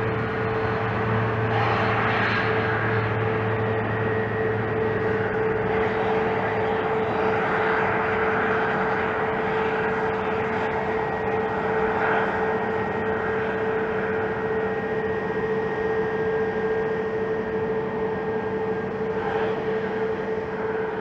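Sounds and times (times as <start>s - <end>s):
turboprop engines drone: 0.0s - 21.0s.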